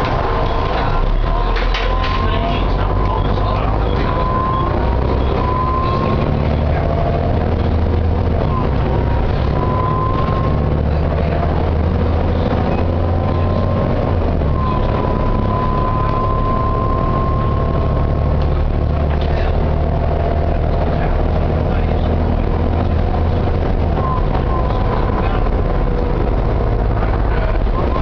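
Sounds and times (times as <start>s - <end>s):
bus diesel engine rumbling: 0.0s - 28.0s.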